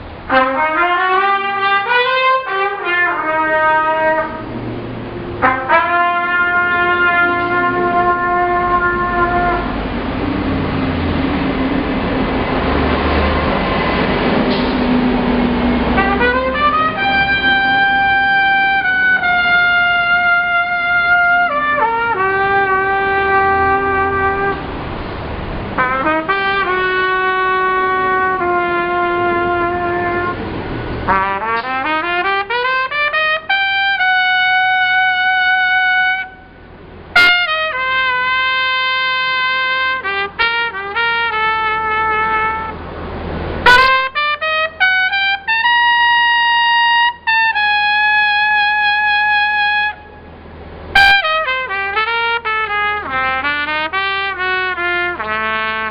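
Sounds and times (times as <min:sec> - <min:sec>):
solo brass horn melody: 0:00.3 - 0:10.1, 0:15.7 - 0:24.8, 0:25.7 - 0:42.9, 0:43.6 - 0:55.9.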